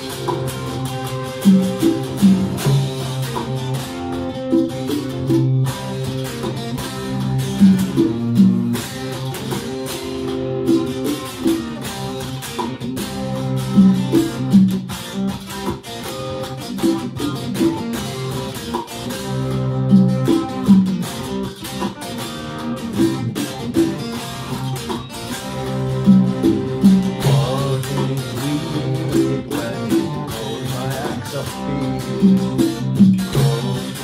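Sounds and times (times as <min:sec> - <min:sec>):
electric guitar plucked notes: 0:00.0 - 0:34.0.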